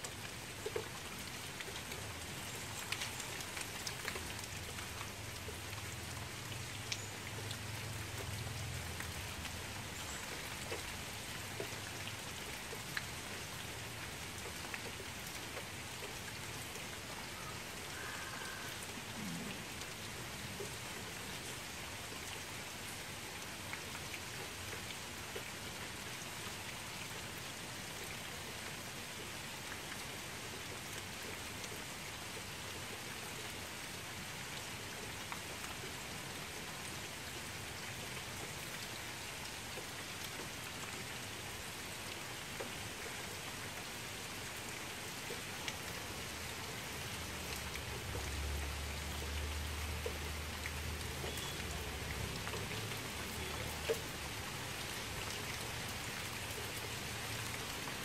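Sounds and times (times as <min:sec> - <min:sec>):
rain falling on still water: 0:00.0 - 0:58.0.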